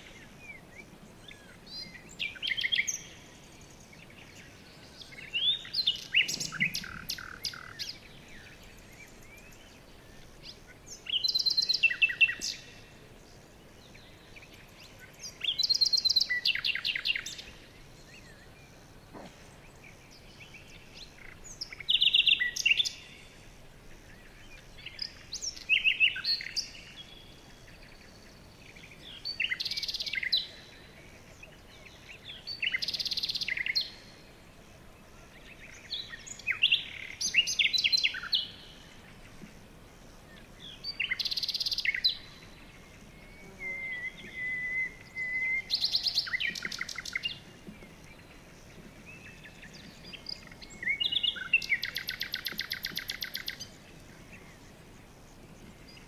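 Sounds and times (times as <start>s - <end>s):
songbirds trilling: 0.0s - 56.0s.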